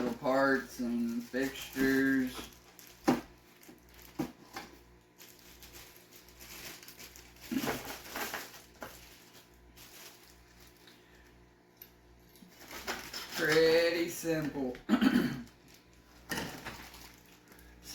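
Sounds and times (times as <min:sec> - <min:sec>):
plastic crinkling: 0:00.0 - 0:11.3, 0:12.4 - 0:14.5, 0:15.4 - 0:17.9.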